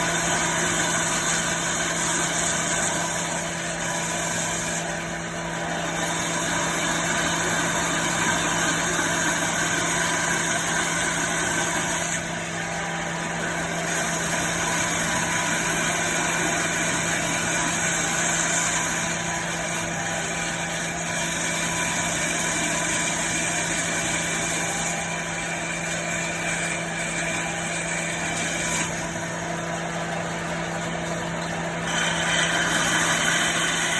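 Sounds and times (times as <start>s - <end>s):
woodworking machine motor hum: 0.0s - 33.9s.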